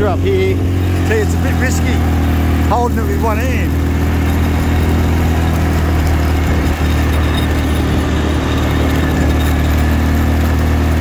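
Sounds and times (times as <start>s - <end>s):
small vehicle engine humming: 0.0s - 11.0s
tyre and road noise: 0.0s - 11.0s.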